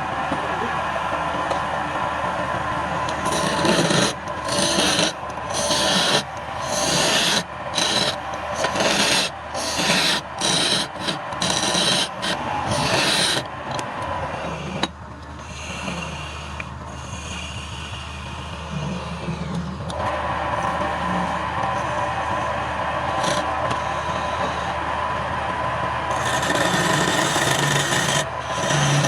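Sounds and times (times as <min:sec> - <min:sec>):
lathe motor hum: 0:00.0 - 0:29.0
tool rasping on spinning wood: 0:03.0 - 0:29.0.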